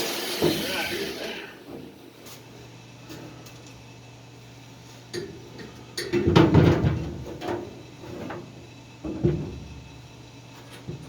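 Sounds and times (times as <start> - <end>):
steady low hum: 1.3 - 11.0.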